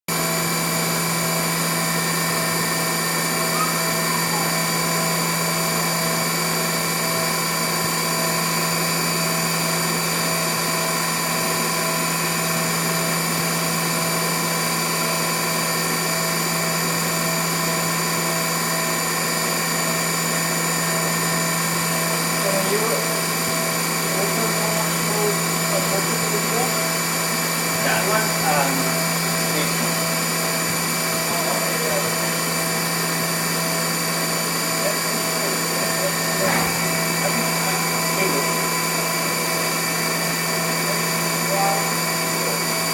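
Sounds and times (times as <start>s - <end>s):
machine hum with whining tones: 0.1s - 42.9s.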